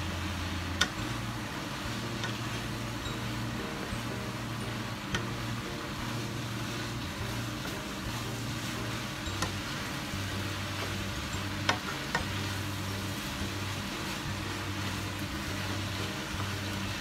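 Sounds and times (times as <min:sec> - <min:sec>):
noodles sizzling in a frying pan: 0:00.0 - 0:17.0
steady low hum: 0:00.0 - 0:17.0.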